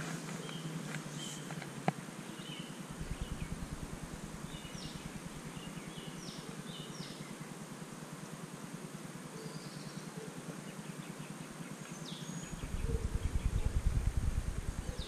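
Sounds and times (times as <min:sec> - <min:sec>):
bird chirping: 0:00.0 - 0:07.5, 0:09.4 - 0:15.0.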